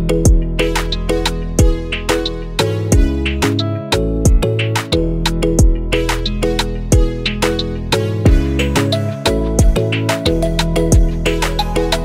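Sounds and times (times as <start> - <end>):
instrumental music with beat: 0.0 - 12.0.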